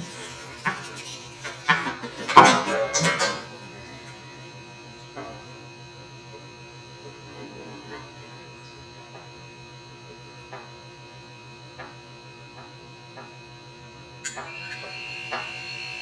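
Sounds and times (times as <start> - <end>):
refrigerator compressor humming: 0.0 - 16.0.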